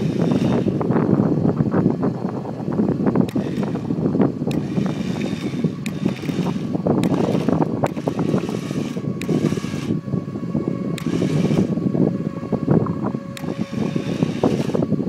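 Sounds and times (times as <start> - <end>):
machine hum with faint whine: 0.0 - 15.0
wind buffeting microphone: 0.0 - 15.0.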